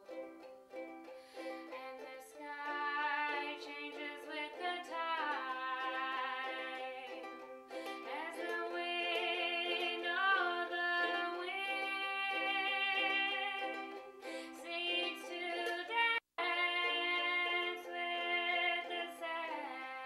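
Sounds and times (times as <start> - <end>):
ukulele plucking: 0.0 - 20.0
woman singing: 1.4 - 20.0.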